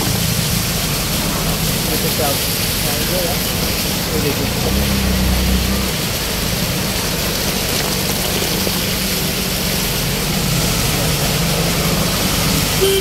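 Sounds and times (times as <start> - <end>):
auto-rickshaw engine running: 0.0 - 13.0
heavy rain on wet road: 0.0 - 13.0.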